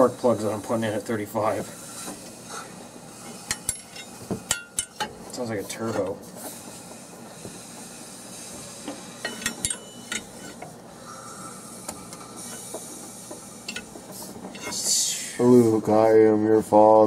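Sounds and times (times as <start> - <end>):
air hissing from engine cylinders: 0.0 - 5.1, 5.7 - 15.8.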